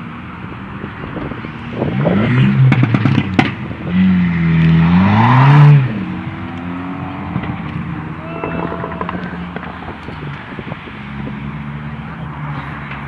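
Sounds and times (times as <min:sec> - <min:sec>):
car engine revving: 0:00.1 - 0:13.0
exhaust pops and crackles: 0:00.8 - 0:11.4.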